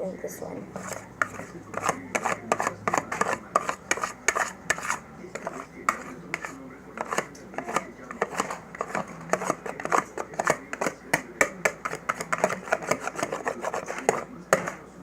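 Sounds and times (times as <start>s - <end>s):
utensil clattering against bowl: 0.8s - 14.8s.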